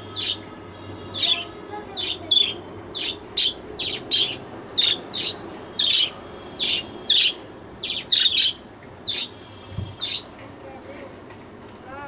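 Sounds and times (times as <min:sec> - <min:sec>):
young birds chirping: 0:00.0 - 0:11.2.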